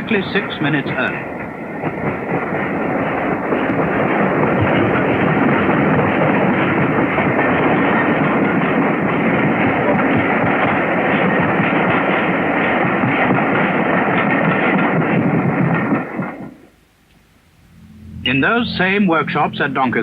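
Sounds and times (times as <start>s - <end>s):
steam train running: 0.0s - 20.0s.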